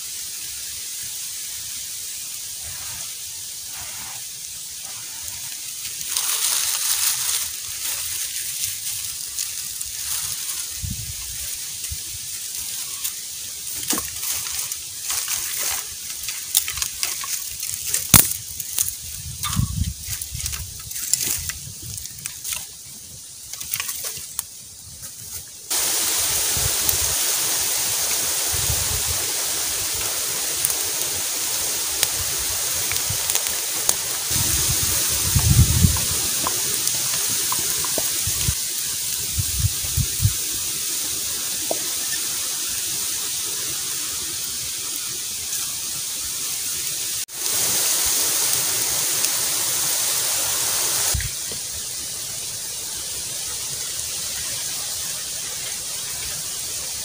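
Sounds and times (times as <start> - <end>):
steady hiss: 0.0 - 57.0
campfire crackling and popping: 3.5 - 57.0.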